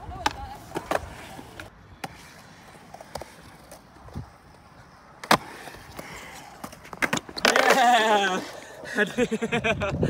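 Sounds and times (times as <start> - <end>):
skateboard clacking on concrete: 0.0 - 8.5
skateboard rolling on concrete: 0.0 - 10.0.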